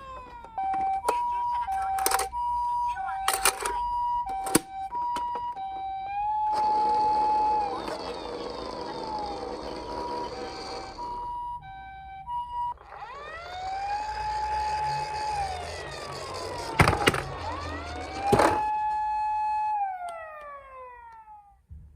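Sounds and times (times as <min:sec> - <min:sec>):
two-tone ambulance siren: 0:00.0 - 0:21.6
wailing siren: 0:00.0 - 0:21.6.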